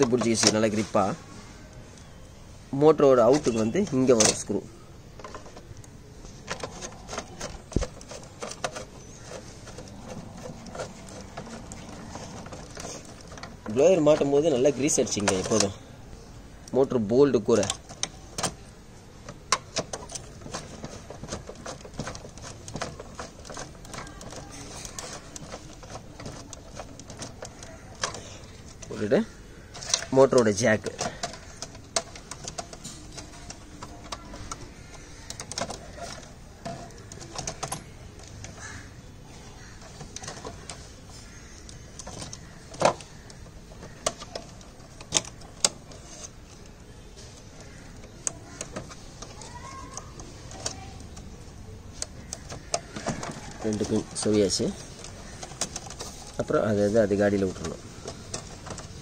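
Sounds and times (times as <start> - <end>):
plastic parts clicking and knocking: 0.0 - 59.0.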